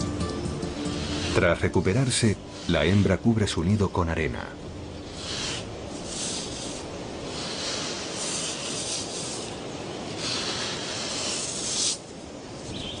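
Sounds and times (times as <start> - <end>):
sand scraping and hissing: 0.0 - 4.0, 4.9 - 12.7.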